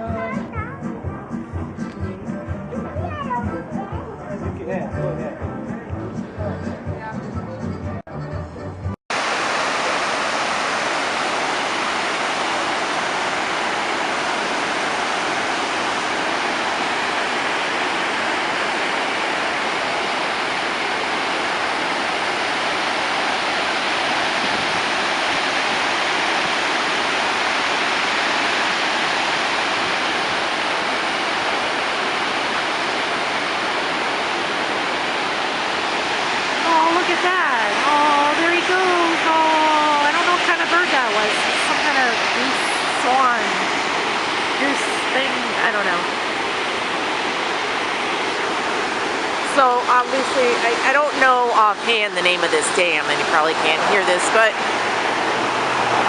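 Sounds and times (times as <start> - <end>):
water roaring over a spillway: 9.1 - 56.0.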